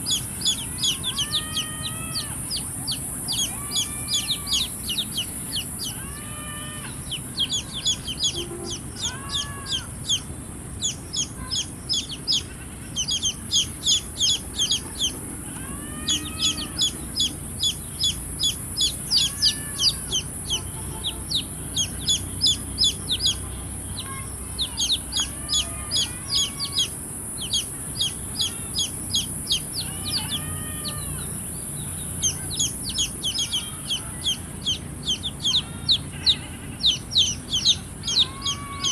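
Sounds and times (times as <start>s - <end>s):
hen clucking: 0.0s - 31.2s, 32.2s - 38.9s
baby chicks peeping: 0.0s - 38.9s
steady high hiss: 0.0s - 38.9s.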